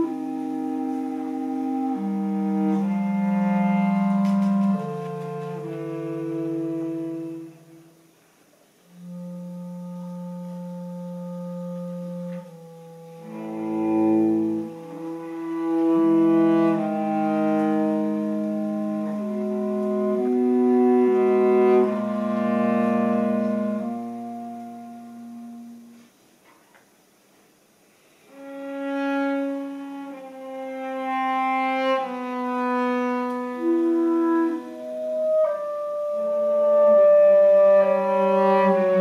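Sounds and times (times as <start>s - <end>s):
clarinet: 0.0s - 26.7s, 28.0s - 39.0s
cello: 0.0s - 26.8s, 28.0s - 39.0s.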